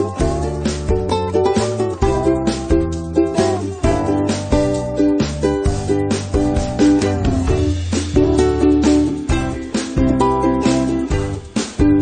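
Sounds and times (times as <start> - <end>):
cheerful plucked-string tune: 0.0 - 12.0.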